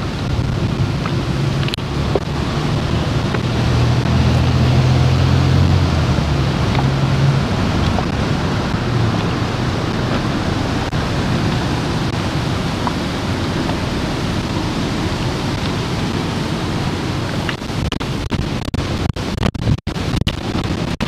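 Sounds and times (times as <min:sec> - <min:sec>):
cars passing: 0:00.0 - 0:18.2
fountain water splashing: 0:00.0 - 0:21.0.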